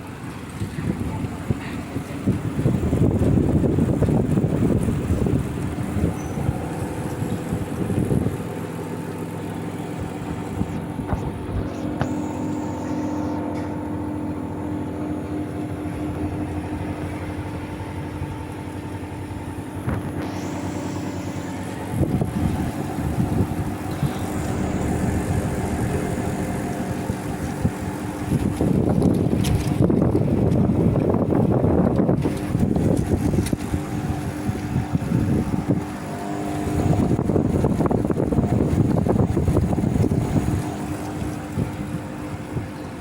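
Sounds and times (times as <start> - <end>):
air conditioner humming: 0.0 - 43.0.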